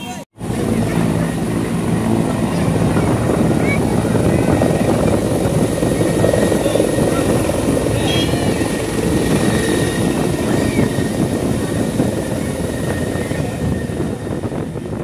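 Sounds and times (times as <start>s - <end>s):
helicopter rotor beating: 0.0s - 15.0s
turbine whine: 0.4s - 15.0s.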